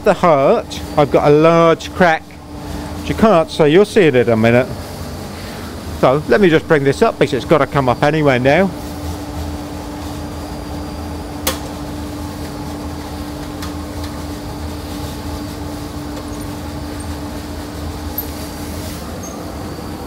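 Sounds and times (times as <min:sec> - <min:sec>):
workshop machinery hum: 0:00.0 - 0:20.0.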